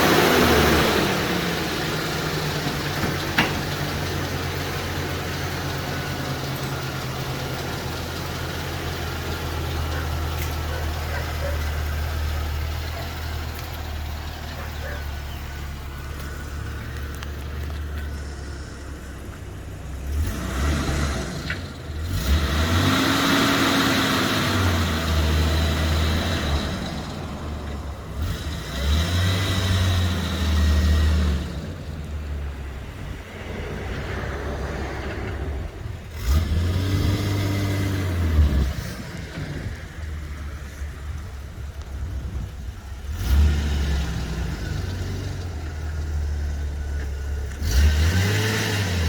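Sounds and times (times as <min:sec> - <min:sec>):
pickup engine revving: 0:00.0 - 0:49.0
road and tyre noise: 0:00.0 - 0:49.0.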